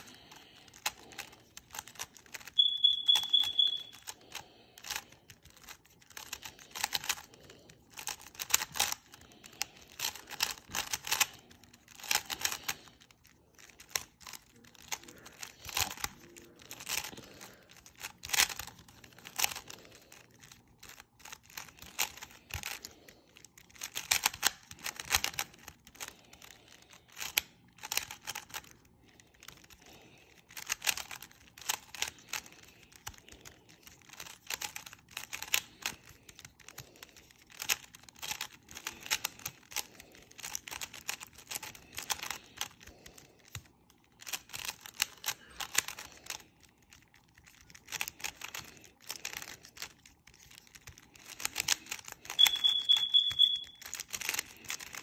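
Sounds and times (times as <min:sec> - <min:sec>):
puzzle cube layers clicking: 0:00.0 - 0:55.0.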